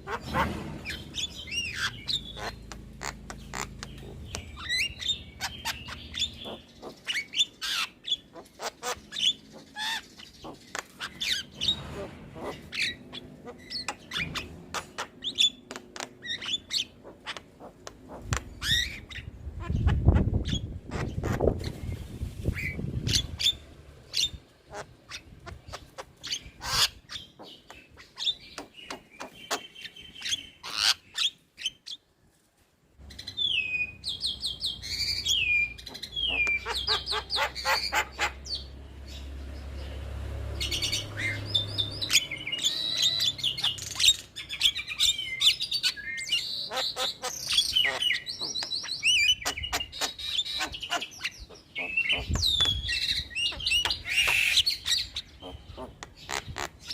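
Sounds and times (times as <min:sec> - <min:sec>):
bird chattering song: 0:00.0 - 0:32.1, 0:33.0 - 0:56.9.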